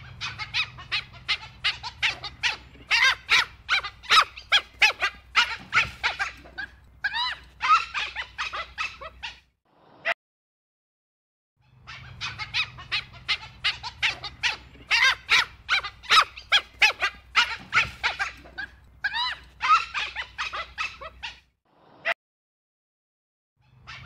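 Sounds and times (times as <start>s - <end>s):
dhole squeaky calls: 0.0s - 9.4s, 11.6s - 21.5s, 23.6s - 24.0s.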